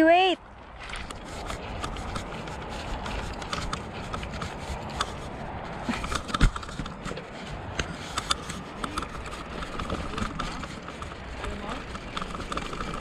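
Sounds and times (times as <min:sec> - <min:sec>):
bike clicks and rattles: 0:00.4 - 0:13.0.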